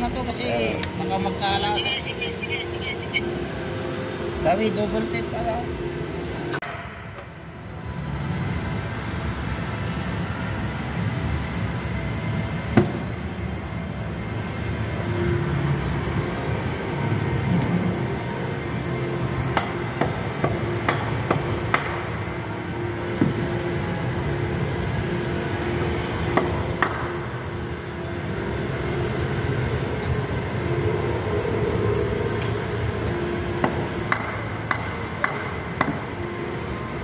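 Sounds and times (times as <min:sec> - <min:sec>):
machinery drone: 0:00.0 - 0:37.0.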